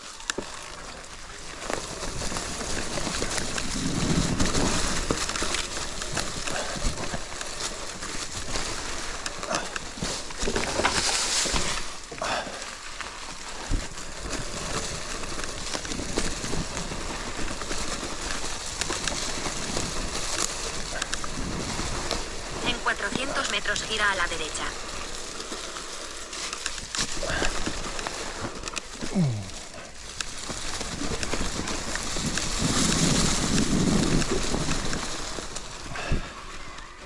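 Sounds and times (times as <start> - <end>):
clicks and crackles: 0.0 - 37.0
riding along forest track: 0.0 - 37.0.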